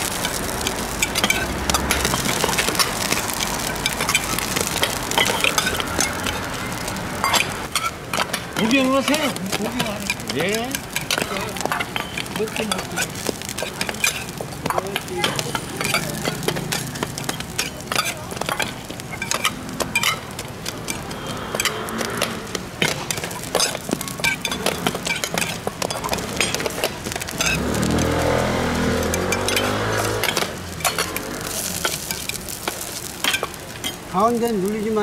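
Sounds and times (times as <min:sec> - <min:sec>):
metal lids clinking on griddle: 0:00.0 - 0:21.0, 0:22.8 - 0:28.4, 0:29.0 - 0:34.3.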